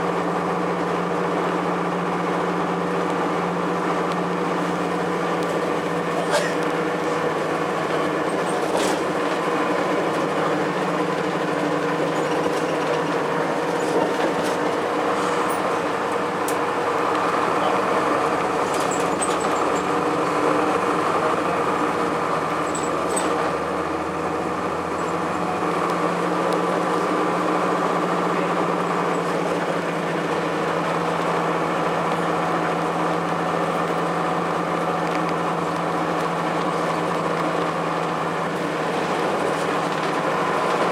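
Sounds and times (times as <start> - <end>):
diesel bus engine running: 0.0 - 40.9.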